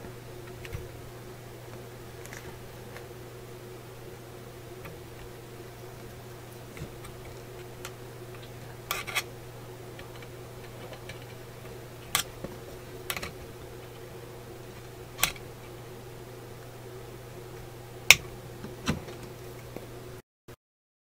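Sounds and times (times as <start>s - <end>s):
low electrical hum: 0.0s - 20.2s.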